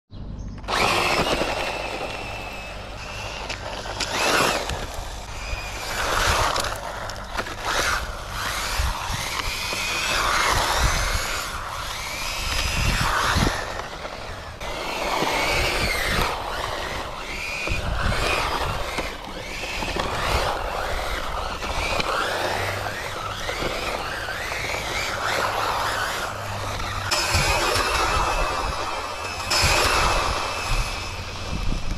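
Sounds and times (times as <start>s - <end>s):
electric motor whining: 0.6s - 31.9s.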